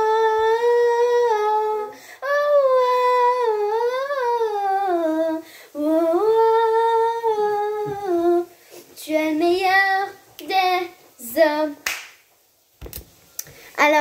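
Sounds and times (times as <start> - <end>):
child singing wordless notes: 0.0 - 11.8.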